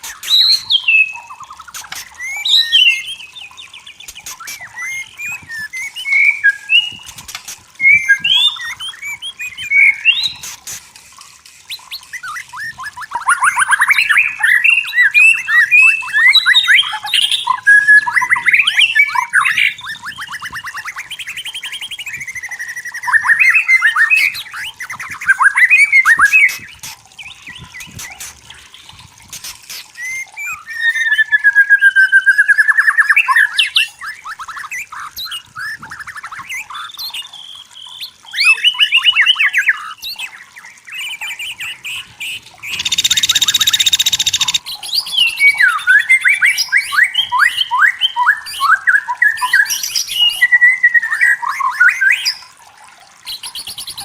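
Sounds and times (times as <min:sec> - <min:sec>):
songbird whistling and trilling: 0:00.0 - 0:10.7, 0:11.5 - 0:52.6, 0:53.2 - 0:54.0.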